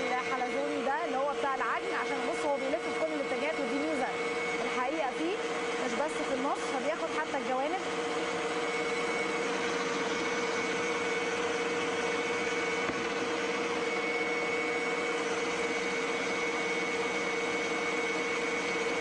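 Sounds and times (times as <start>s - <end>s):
stand mixer kneading dough: 0.0s - 19.0s.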